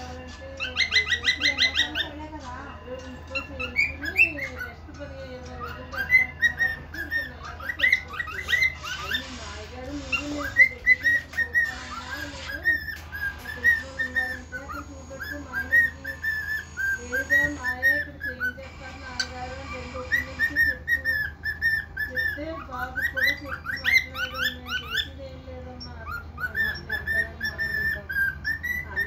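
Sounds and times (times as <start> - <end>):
cockatiel whistling: 0.0 - 2.2, 3.0 - 4.8, 5.4 - 25.2, 25.8 - 29.0.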